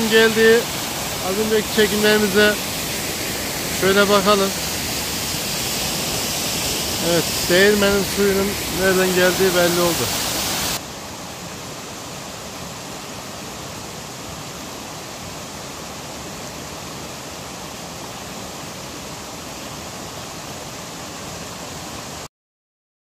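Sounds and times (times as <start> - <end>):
waterfall rushing: 0.0 - 22.3.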